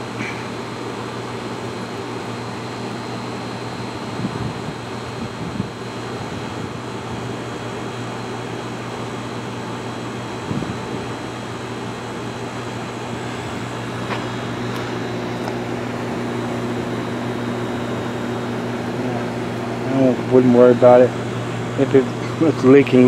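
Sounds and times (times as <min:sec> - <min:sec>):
electric pump hum: 0:00.0 - 0:23.0
fan noise: 0:00.0 - 0:23.0.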